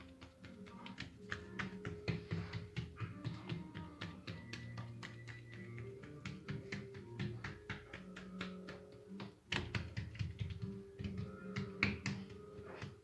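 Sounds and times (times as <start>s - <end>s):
background music with held tones: 0.0s - 13.0s
quick steady tapping rhythm: 0.0s - 13.0s.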